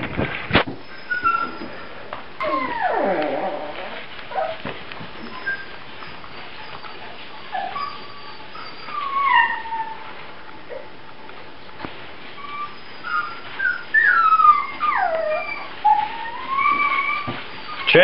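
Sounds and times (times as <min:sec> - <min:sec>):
puppies whining and yelping: 0:00.7 - 0:11.0, 0:12.2 - 0:18.0.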